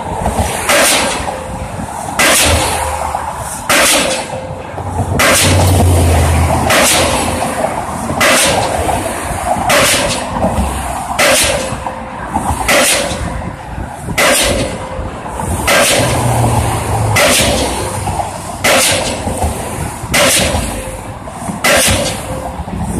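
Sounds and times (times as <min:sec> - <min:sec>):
pile driver hammer banging: 0:00.3 - 0:15.0, 0:15.6 - 0:22.5.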